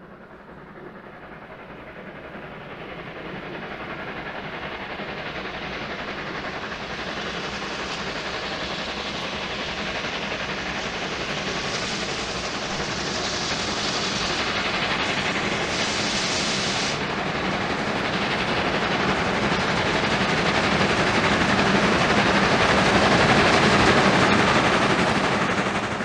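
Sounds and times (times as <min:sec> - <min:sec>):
train approaching: 0:00.0 - 0:26.0.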